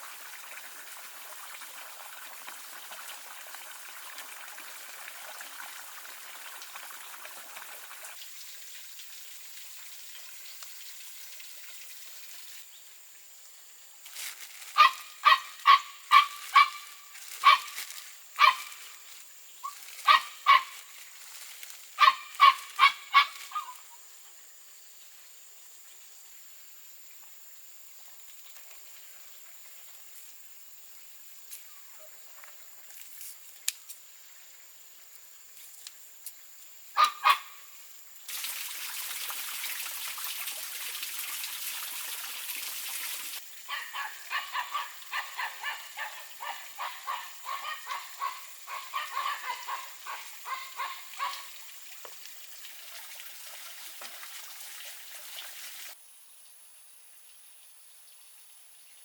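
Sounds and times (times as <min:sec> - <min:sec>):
faint water hiss: 0:00.0 - 0:59.0.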